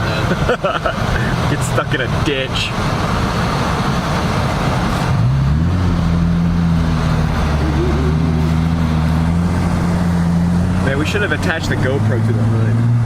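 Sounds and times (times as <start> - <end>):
road noise hiss: 0.0 - 13.0
car engine revving: 1.0 - 13.0.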